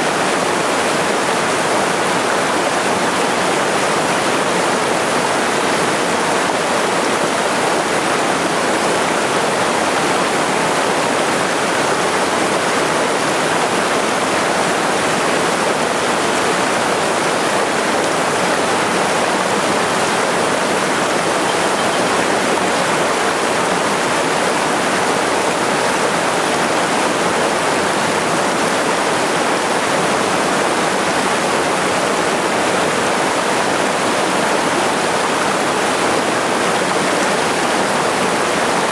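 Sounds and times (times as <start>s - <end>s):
water rushing over boulders: 0.0s - 38.9s.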